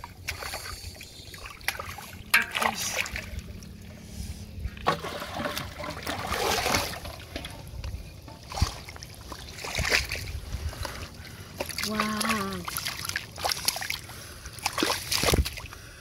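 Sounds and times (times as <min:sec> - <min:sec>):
shallow water splashing: 0:00.0 - 0:15.9.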